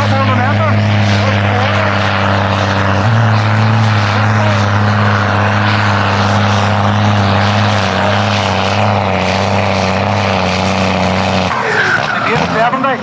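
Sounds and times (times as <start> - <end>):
tractor diesel engine under heavy load: 0.0 - 13.0.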